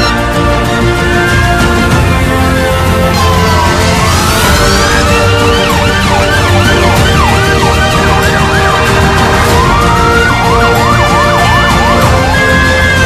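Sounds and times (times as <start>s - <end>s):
background music: 0.0s - 13.0s
emergency vehicle sirens: 0.0s - 13.0s.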